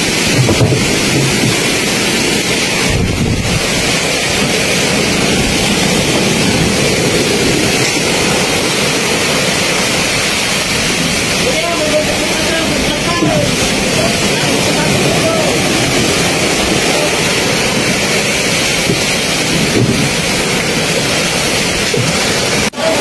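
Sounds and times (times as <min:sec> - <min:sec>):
strong wind on microphone: 0:00.0 - 0:22.8
waves washing around boats: 0:00.0 - 0:23.0.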